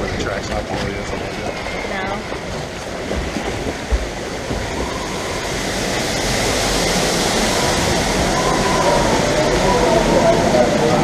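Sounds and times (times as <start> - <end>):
amusement ride rushing: 0.0 - 11.0.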